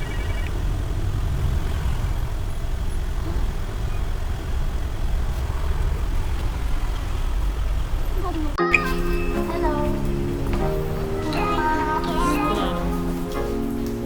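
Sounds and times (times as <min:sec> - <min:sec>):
heavy vehicles passing: 0:00.0 - 0:14.0
street traffic rumble: 0:00.0 - 0:14.0.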